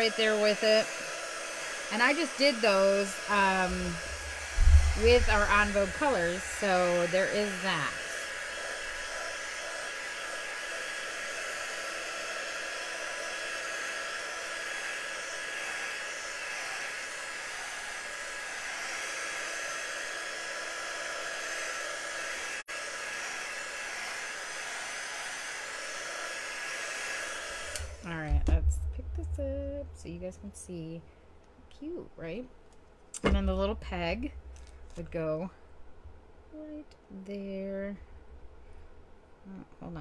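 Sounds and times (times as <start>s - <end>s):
heat gun blowing: 0.0s - 30.0s, 33.2s - 35.4s.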